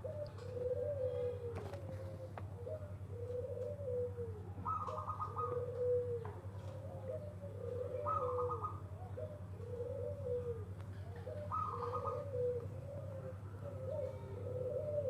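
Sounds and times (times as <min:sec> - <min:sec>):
dove cooing: 0:00.0 - 0:15.0
steady low hum: 0:00.0 - 0:15.0.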